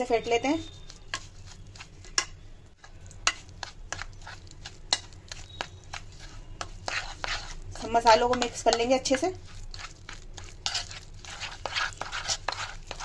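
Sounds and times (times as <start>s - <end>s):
metal spoon scraping a plate: 0.1s - 7.6s, 8.3s - 13.0s.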